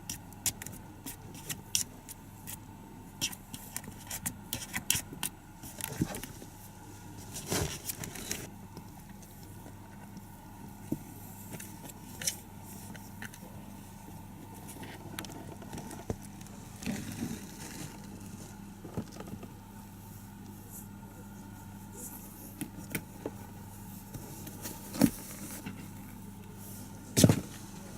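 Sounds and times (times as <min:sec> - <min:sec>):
kittens scuffling and playing: 0:00.0 - 0:27.9
steady electrical hum: 0:00.0 - 0:27.9.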